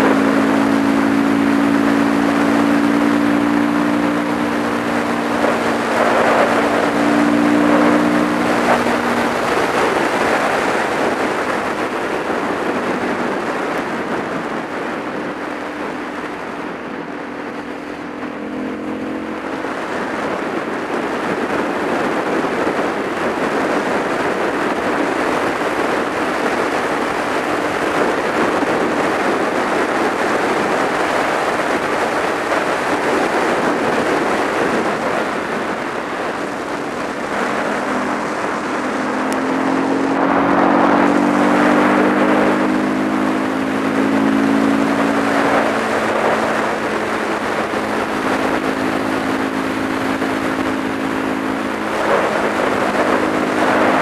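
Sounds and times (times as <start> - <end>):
motorcycle engine hum: 0.0 - 54.0
wind rush over microphone: 0.0 - 54.0.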